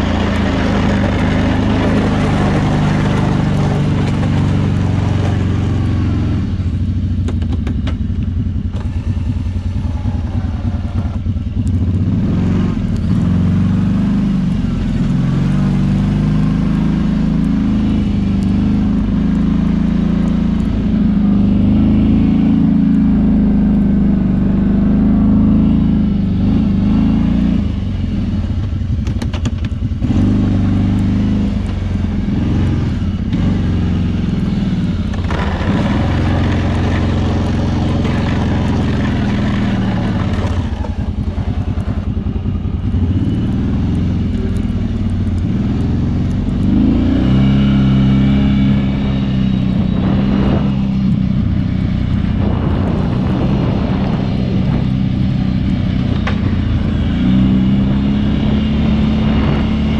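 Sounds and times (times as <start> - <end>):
atv engine under load: 0.0 - 25.8, 26.4 - 59.9.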